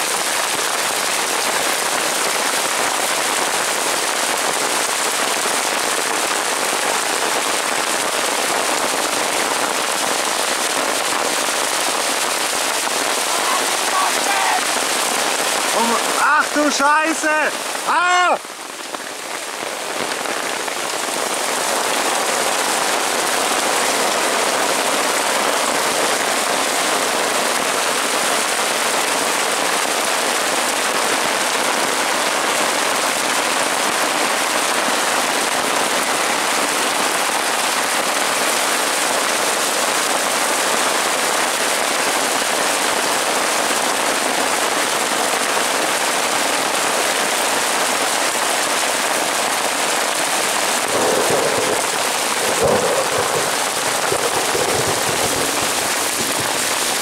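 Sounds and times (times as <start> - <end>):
heavy rain on tarp and leaves: 0.0 - 57.0.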